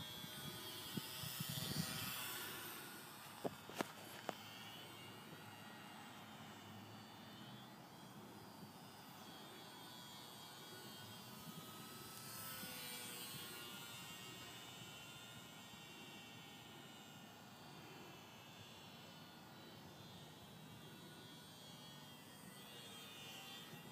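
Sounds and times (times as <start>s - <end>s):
model plane motor whine: 0.0s - 23.9s.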